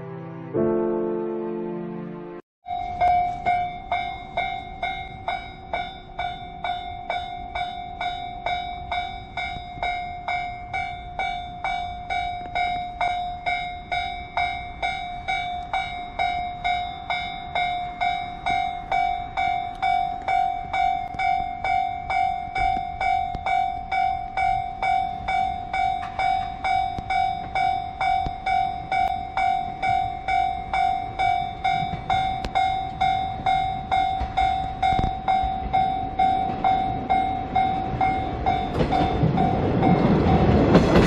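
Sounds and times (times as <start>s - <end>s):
level crossing alarm bell: 2.6s - 41.0s.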